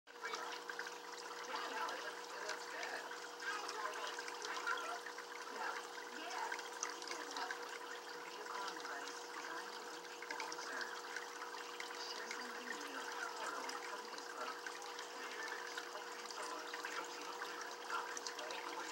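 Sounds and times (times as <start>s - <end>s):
small water splashes: 0.1s - 18.9s
water trickling and bubbling: 0.1s - 18.9s.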